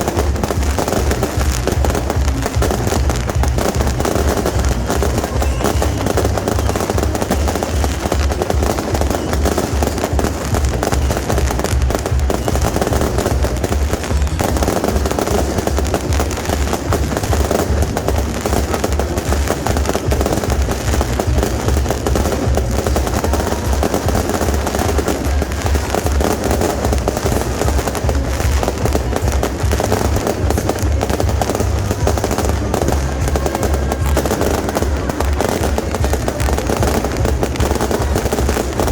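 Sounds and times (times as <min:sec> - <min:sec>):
fireworks crackling bangs: 0:00.0 - 0:38.9
music playing: 0:00.0 - 0:38.9.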